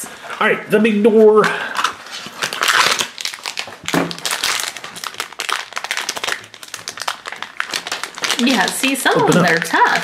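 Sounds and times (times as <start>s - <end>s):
foil bag crinkling: 1.6s - 10.0s.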